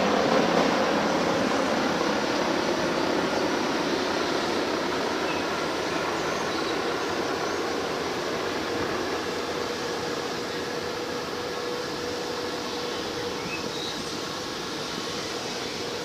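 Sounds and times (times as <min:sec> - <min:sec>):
aircraft engine roar: 0:00.0 - 0:16.0
faint steady whine: 0:00.0 - 0:16.0.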